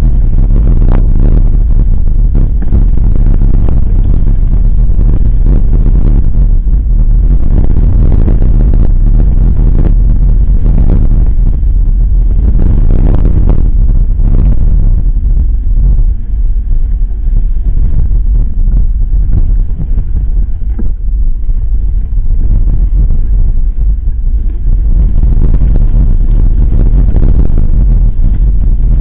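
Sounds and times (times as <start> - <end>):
road vibration rumble: 0.0 - 29.0
wind buffeting: 0.0 - 29.0.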